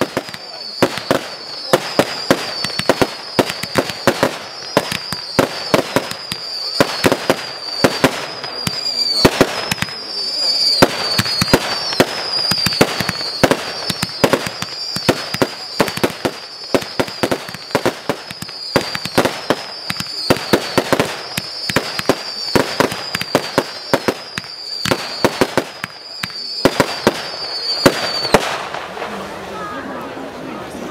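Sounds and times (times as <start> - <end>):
fireworks cracking bangs: 0.0 - 29.4
fireworks whistling: 0.0 - 29.8.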